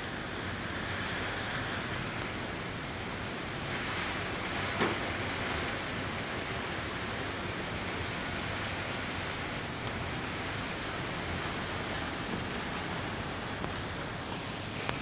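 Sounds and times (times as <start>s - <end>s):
storm wind through palm fronds: 0.0s - 15.0s.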